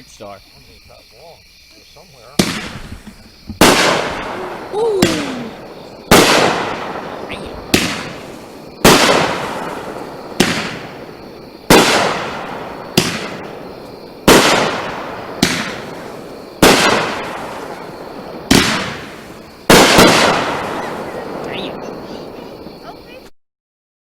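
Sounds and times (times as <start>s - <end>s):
sharp firework reports: 2.0s - 23.3s
fireworks cake bangs: 2.2s - 23.3s
strobe crackle fizz: 2.2s - 23.3s.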